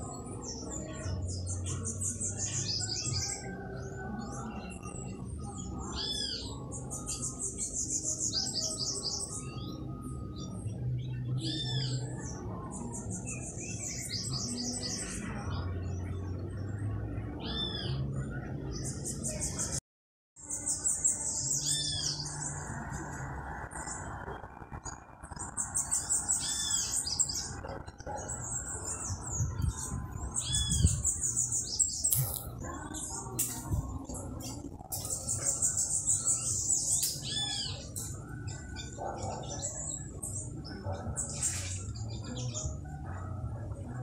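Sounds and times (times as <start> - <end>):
birds chirping trills: 0.0 - 19.8, 20.4 - 44.0.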